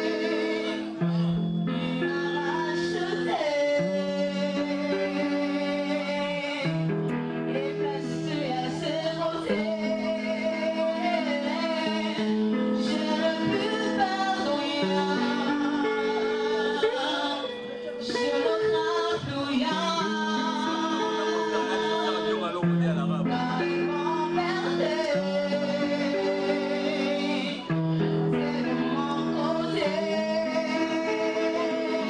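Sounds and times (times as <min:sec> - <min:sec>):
woman singing into a microphone: 0:00.0 - 0:22.5, 0:23.2 - 0:32.0
instrumental backing music: 0:00.0 - 0:32.0.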